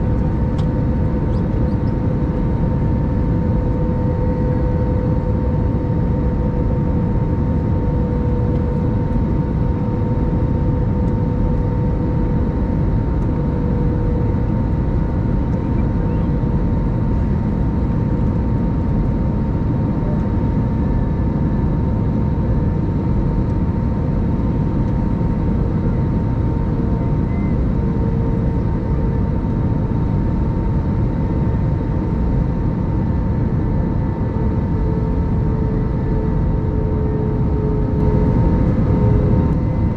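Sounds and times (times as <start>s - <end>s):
aircraft cabin drone: 0.0s - 39.9s
constant whine: 0.0s - 39.9s
low wavering hum: 0.0s - 39.9s.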